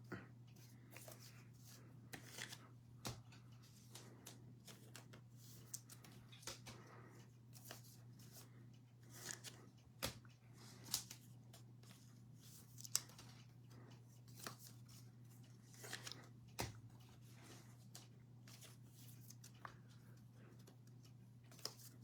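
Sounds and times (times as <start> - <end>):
low electrical hum: 0.0 - 22.0
cards flicking and rustling: 0.9 - 13.5, 14.2 - 19.9, 20.6 - 22.0.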